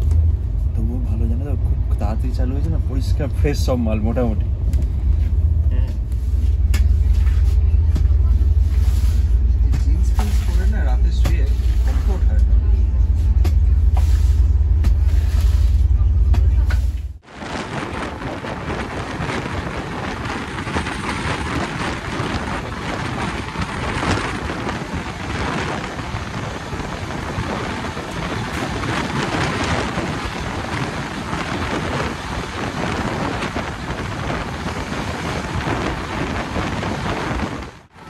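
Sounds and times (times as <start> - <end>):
passenger train running at speed: 0.0 - 38.0.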